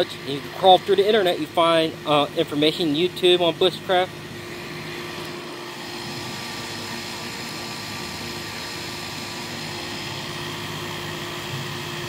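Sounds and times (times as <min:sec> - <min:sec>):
steady machine drone: 0:00.0 - 0:12.0.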